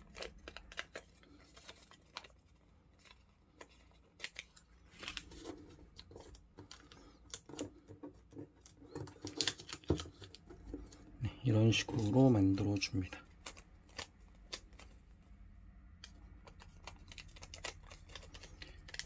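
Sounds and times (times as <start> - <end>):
paper rustling as it is folded: 0.0 - 15.3, 16.0 - 19.0.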